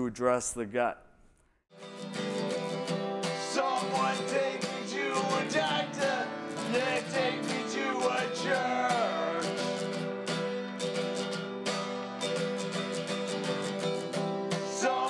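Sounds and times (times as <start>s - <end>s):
strummed acoustic guitar music: 1.7s - 15.0s.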